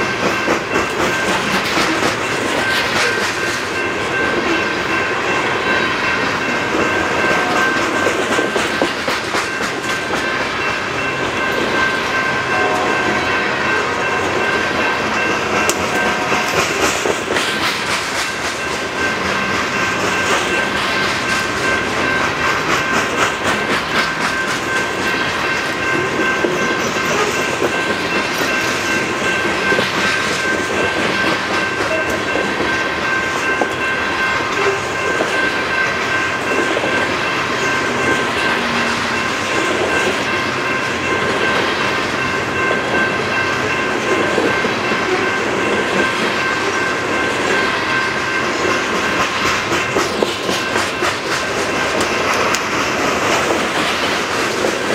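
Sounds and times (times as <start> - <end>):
train wheels clicking over rails: 0.0 - 5.1, 5.8 - 12.4, 14.3 - 54.9.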